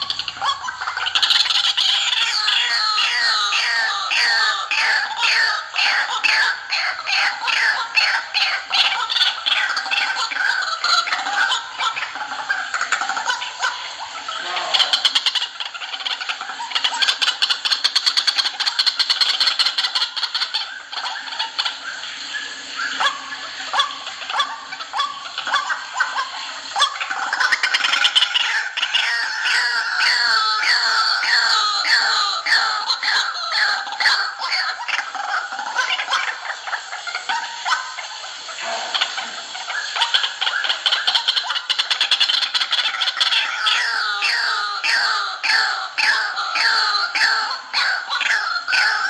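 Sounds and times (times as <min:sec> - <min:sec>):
waterhens calling: 0:00.0 - 0:49.0.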